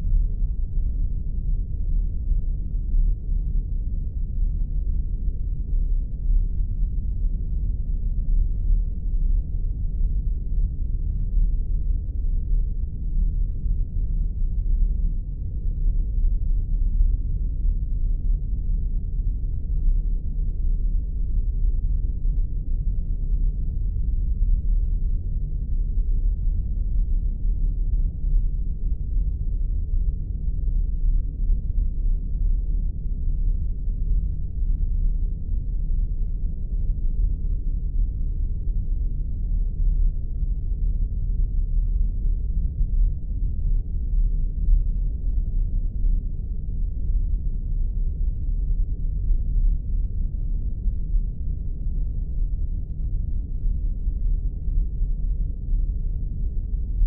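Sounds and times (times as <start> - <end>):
deep rumbling drone: 0.0 - 57.0.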